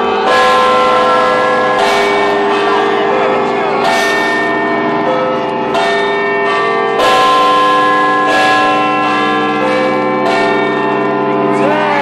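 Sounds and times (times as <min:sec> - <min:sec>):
large tower bells ringing: 0:00.0 - 0:12.0.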